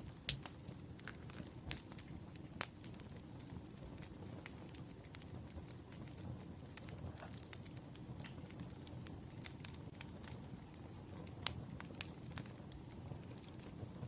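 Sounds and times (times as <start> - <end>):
fire pops and snaps: 0.0 - 14.0
low rumble of burning logs: 0.0 - 14.0.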